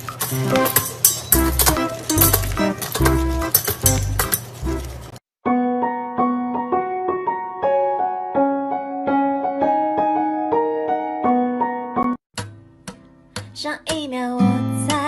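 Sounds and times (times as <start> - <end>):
piano melody: 0.0 - 12.2.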